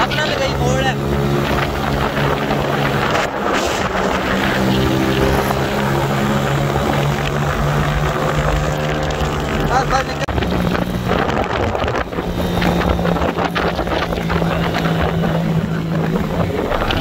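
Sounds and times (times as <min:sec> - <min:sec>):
motorcycle engine running: 0:00.0 - 0:17.0
road noise: 0:00.0 - 0:17.0
wind noise: 0:00.0 - 0:17.0.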